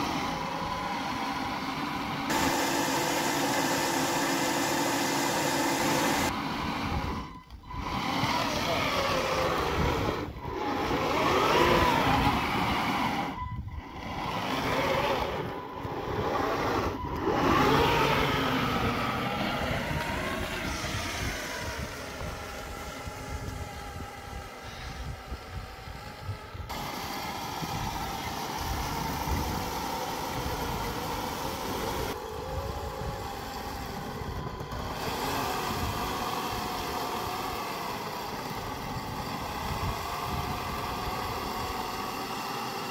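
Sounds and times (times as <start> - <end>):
toy tank motor whirring: 0.0 - 42.9.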